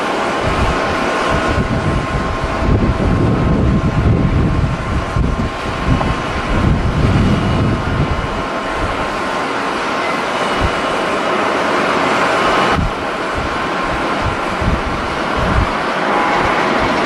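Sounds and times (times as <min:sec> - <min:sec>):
jet engines whining: 0:00.0 - 0:17.0
wind buffeting microphone: 0:00.0 - 0:17.0.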